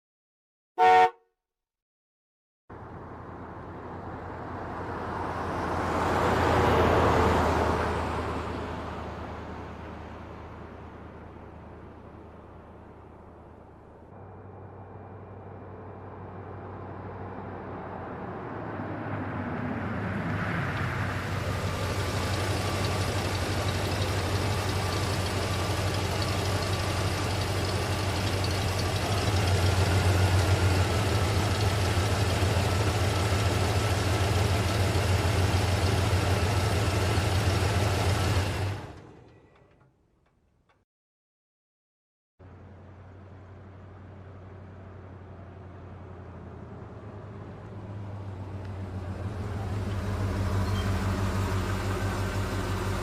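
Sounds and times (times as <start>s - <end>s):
vehicle engine humming with whine: 2.7s - 40.0s, 42.4s - 53.0s.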